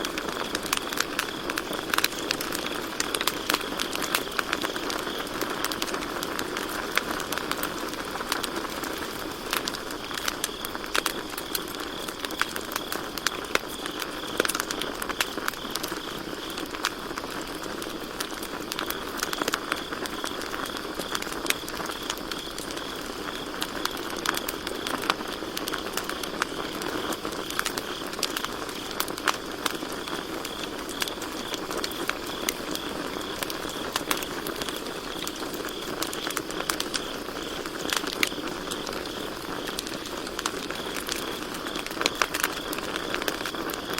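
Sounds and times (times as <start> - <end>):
campfire crackling and popping: 0.0 - 43.9
crickets chirping: 0.0 - 43.9.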